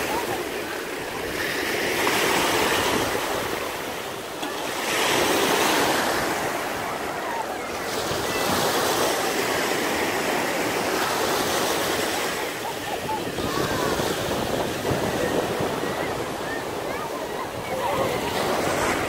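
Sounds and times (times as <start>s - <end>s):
waves breaking on sandy shore: 0.0s - 19.0s.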